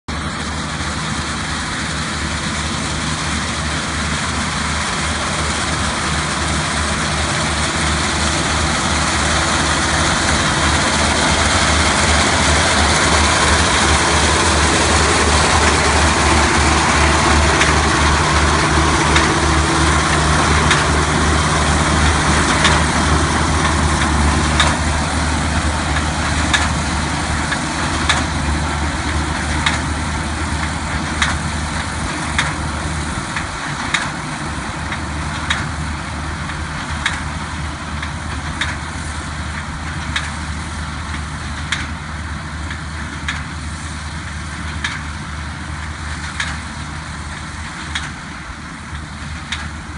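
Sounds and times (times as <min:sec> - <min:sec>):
combine harvester engine hum: 0:00.1 - 0:49.9.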